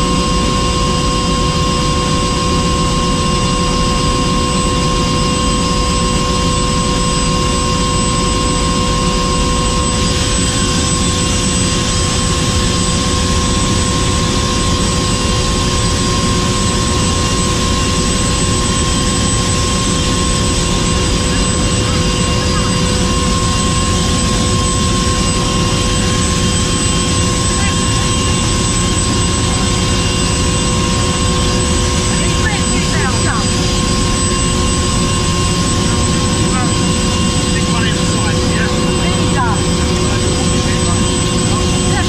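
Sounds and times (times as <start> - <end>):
helicopter engine and rotor: 0.0 - 42.0
steady whining tones: 0.0 - 42.0.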